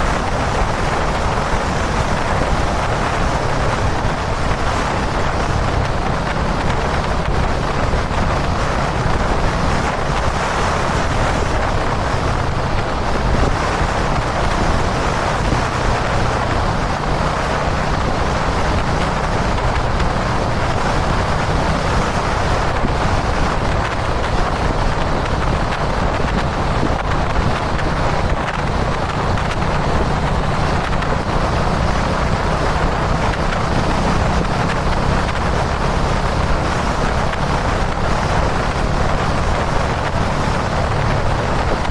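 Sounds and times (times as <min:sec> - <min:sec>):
motorcycle engine cruising: 0:00.0 - 0:41.9
wind rush on microphone: 0:00.0 - 0:41.9.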